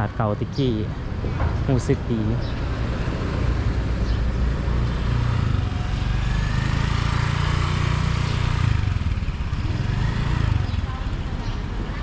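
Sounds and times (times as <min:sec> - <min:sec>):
motorbike and car engines: 0:00.0 - 0:12.0.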